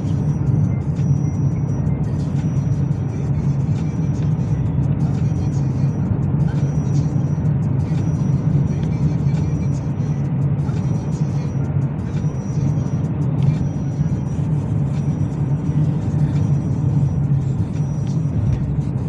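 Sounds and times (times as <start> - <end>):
background music: 0.0 - 19.0
car driving rumble: 0.0 - 19.0.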